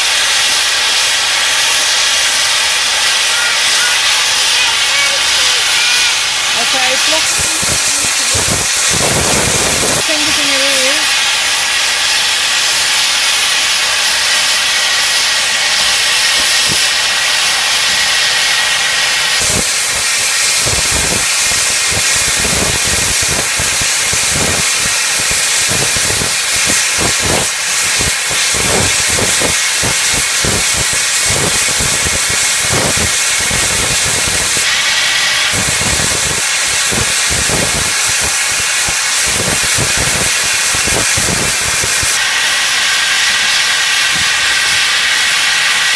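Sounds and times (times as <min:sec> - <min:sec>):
steam locomotive venting steam: 0:00.0 - 0:45.9.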